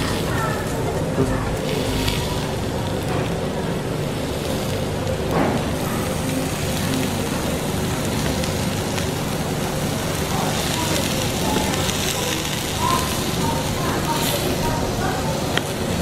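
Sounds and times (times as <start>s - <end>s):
food sizzling on grill plate: 0.0s - 16.0s
steady low hum: 0.0s - 16.0s.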